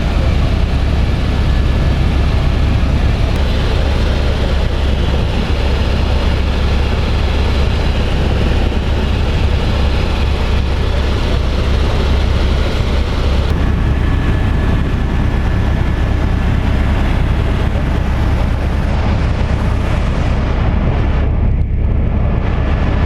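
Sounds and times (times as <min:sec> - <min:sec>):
helicopter rotor and engine drone: 0:00.0 - 0:23.0
rushing noise: 0:00.0 - 0:23.0.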